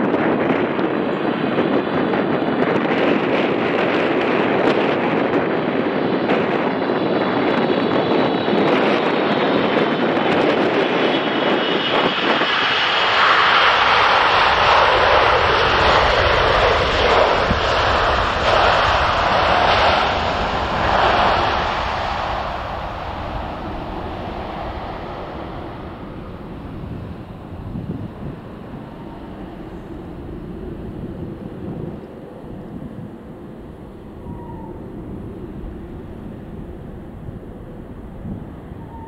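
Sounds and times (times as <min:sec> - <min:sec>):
jet engine rushing noise: 0:00.0 - 0:39.0.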